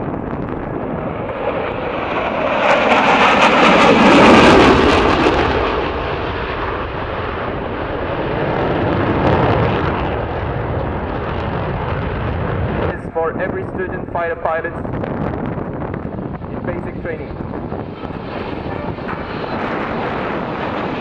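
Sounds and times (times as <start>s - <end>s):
jet fly-past: 0.0s - 21.0s.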